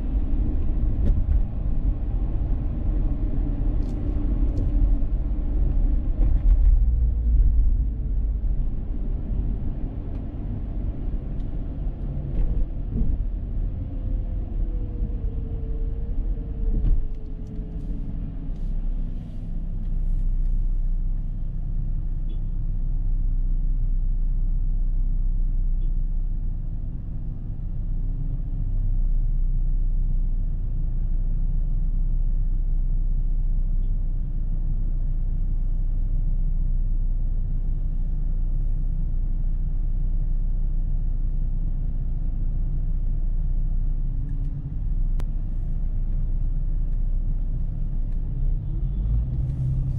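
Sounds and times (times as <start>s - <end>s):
car engine rumble: 0.0s - 49.9s.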